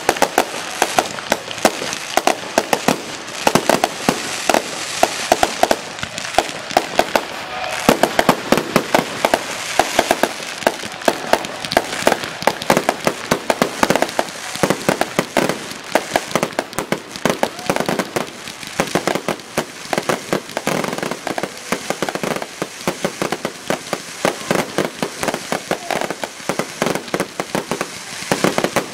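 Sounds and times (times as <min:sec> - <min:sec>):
fireworks bangs and pops: 0:00.0 - 0:28.9
fireworks hissing: 0:00.0 - 0:28.9.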